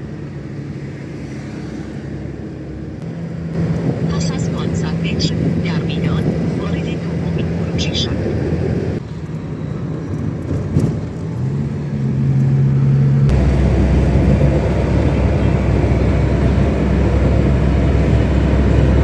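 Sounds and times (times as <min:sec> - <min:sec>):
car engine hum: 0:00.0 - 0:19.0
road rumble: 0:00.0 - 0:19.0.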